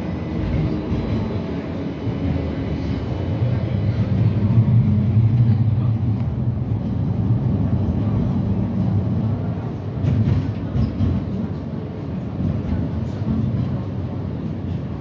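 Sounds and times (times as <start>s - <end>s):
tram cabin rumble: 0.0s - 15.0s.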